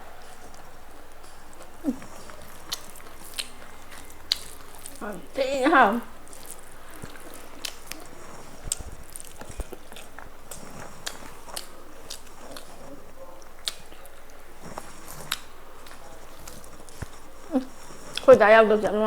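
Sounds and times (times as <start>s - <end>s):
small mouth clicks and smacks: 0.1s - 5.3s, 6.1s - 18.4s
person chewing and biting food: 0.1s - 5.4s, 6.1s - 18.3s.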